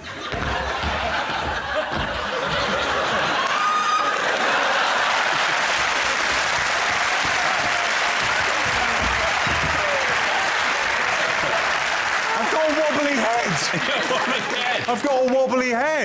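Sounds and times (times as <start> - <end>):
audience laughing: 0.0 - 15.0
audience applauding: 0.0 - 15.7.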